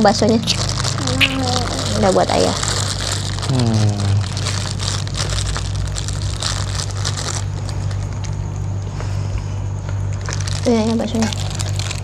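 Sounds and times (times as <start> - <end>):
plastic bag crinkling: 0.0 - 8.4, 10.1 - 12.0
steady low hum: 0.0 - 12.0.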